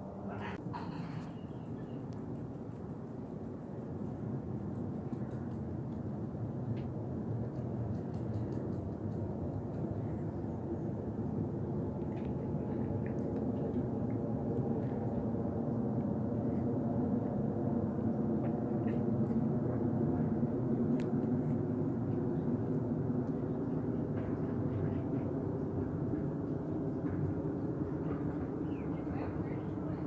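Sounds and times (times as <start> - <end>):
jet engines rumbling overhead: 0.0 - 30.0.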